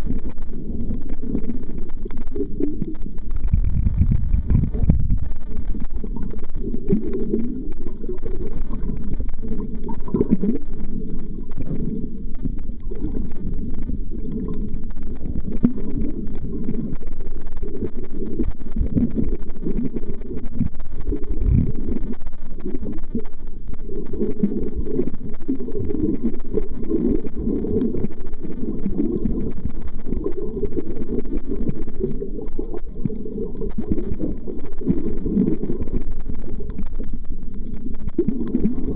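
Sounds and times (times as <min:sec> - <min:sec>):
muffled underwater water movement: 0:00.0 - 0:38.9.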